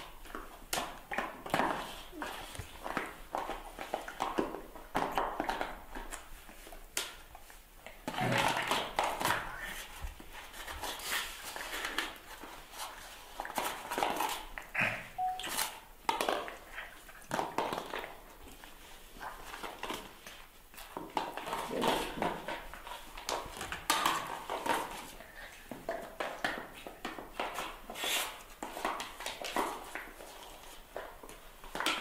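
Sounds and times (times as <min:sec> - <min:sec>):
puppy chewing plastic ball: 0:00.0 - 0:15.4, 0:16.0 - 0:32.0.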